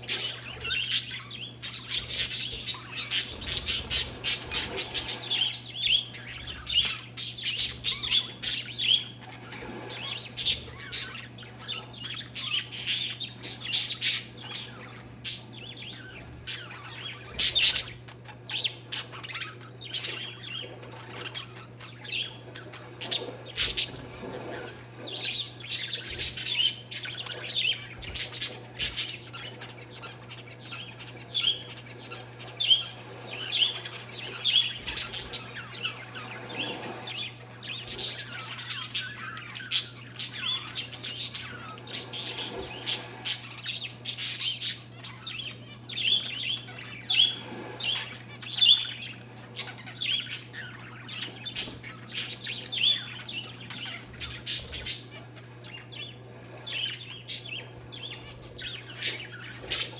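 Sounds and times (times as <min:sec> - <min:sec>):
small birds chirping and squawking: 0:00.0 - 0:59.9
steady low hum: 0:00.0 - 0:59.9.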